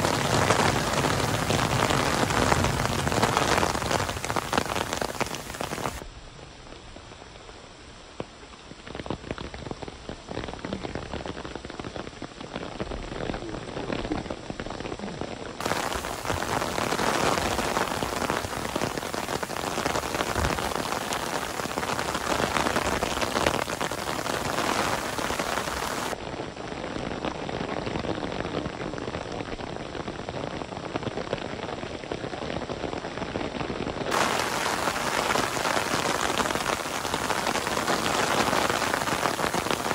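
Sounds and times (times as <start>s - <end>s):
rain falling on wet paving: 0.0s - 39.9s.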